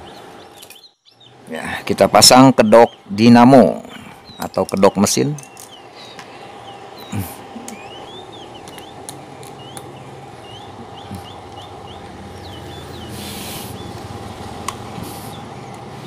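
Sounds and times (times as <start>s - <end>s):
bird chirping: 0.0s - 16.0s
steady hum: 0.0s - 16.0s.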